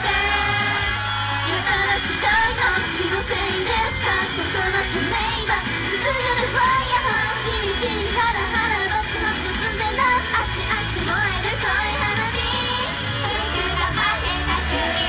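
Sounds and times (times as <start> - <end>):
girls singing: 0.0 - 15.0
loud pop music: 0.0 - 15.0.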